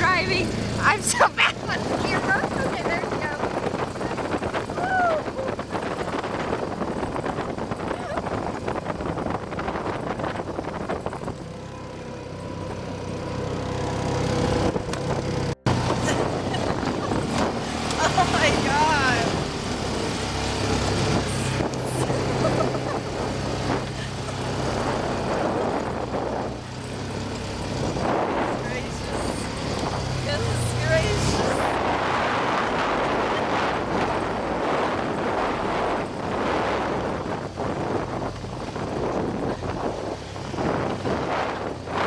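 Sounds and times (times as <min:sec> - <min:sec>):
atv engine running: 0:00.0 - 0:42.0
wind buffeting microphone: 0:00.0 - 0:42.0.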